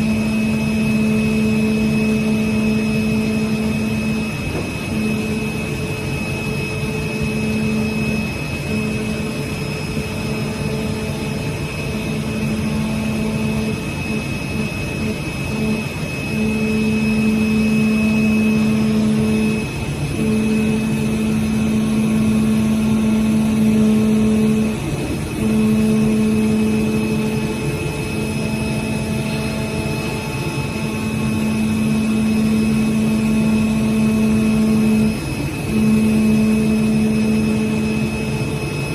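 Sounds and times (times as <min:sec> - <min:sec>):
humming tone: 0:00.0 - 0:38.9
machine hum: 0:00.0 - 0:38.9
thin high whine: 0:00.0 - 0:38.9.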